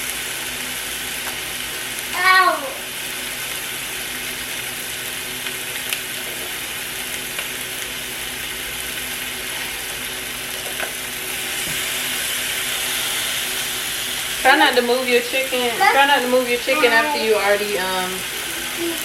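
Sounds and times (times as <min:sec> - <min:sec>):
meat sizzling in oil: 0:00.0 - 0:19.0.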